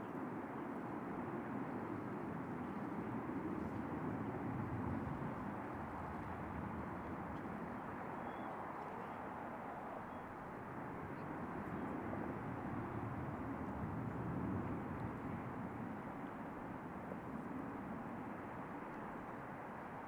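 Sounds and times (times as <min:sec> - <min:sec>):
distant jet aircraft rumble: 0:00.1 - 0:20.0.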